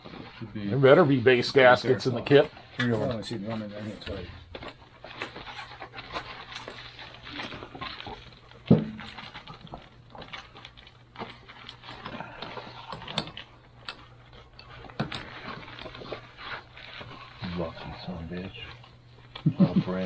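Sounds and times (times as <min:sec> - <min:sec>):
plastic bag crinkling: 0:00.0 - 0:20.0
steady low hum: 0:00.0 - 0:20.0.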